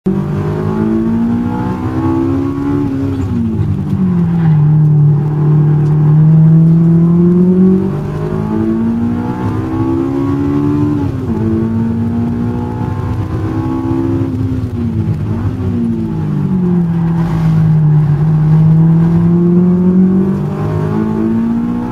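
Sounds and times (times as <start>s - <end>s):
car engine driven hard: 0.1s - 21.9s.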